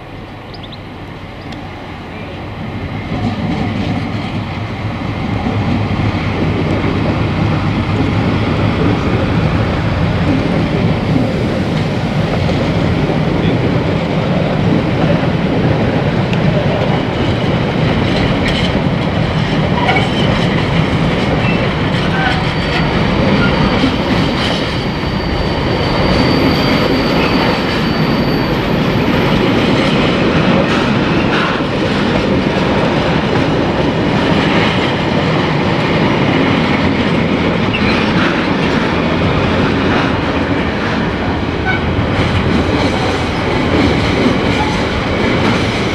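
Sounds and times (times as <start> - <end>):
train wheels clattering: 1.4 - 45.9
high wheel squeal: 2.9 - 31.6, 37.6 - 45.9.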